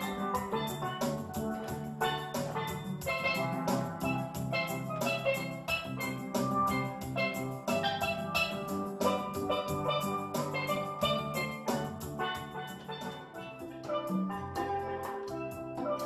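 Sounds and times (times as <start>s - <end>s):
low bass line: 0.0s - 14.6s
steel drums playing lively tune: 0.0s - 16.0s.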